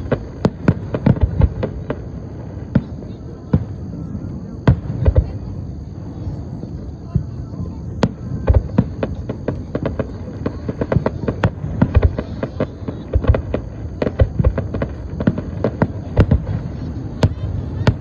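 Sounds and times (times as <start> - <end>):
fireworks bangs and cracks: 0.0 - 18.0.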